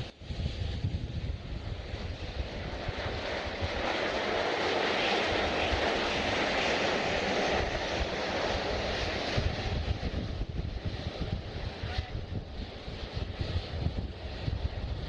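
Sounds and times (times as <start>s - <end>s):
jet engines passing: 0.0s - 15.0s
wind buffeting microphone: 0.0s - 15.0s.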